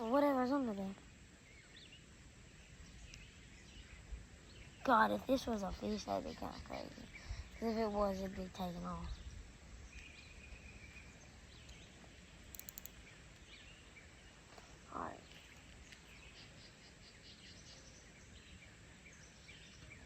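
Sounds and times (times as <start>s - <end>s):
faint bird chirps: 0.0s - 20.0s
low steady hiss: 0.0s - 20.0s.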